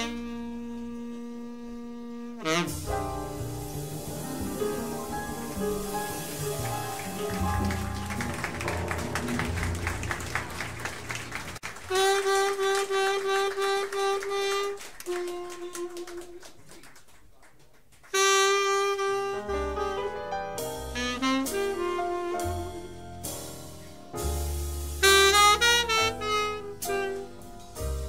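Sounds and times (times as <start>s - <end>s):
bass: 0.0s - 16.0s, 18.2s - 28.0s
live jazz quartet playing: 0.0s - 16.5s, 18.1s - 28.0s
tenor saxophone long held notes: 0.0s - 16.5s, 18.1s - 23.2s, 25.0s - 28.0s.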